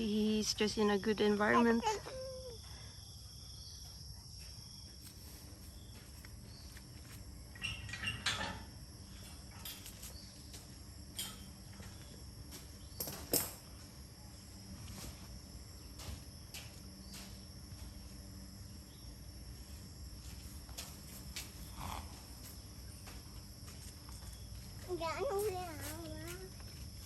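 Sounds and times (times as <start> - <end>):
faint outdoor background: 0.0 - 27.0.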